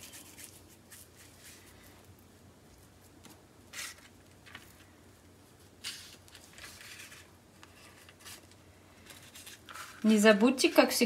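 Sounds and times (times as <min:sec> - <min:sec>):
baking paper rustling: 0:00.0 - 0:02.1, 0:02.8 - 0:11.0.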